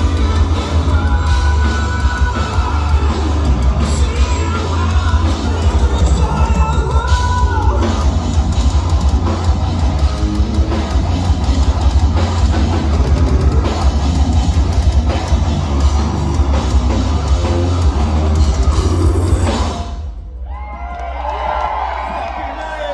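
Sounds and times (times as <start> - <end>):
heavy metal band playing: 0.0 - 20.6.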